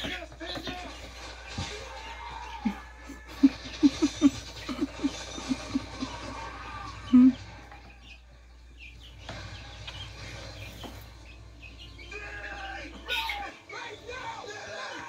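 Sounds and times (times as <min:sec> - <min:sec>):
chicks peeping and chirping: 0:00.0 - 0:15.0.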